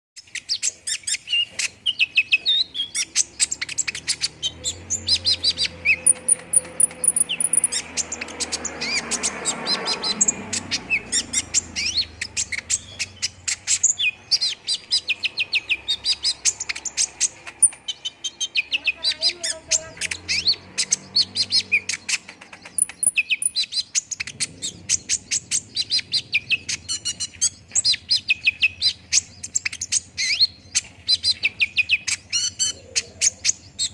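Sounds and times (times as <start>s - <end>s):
bird chirping and trilling: 0.2s - 33.9s.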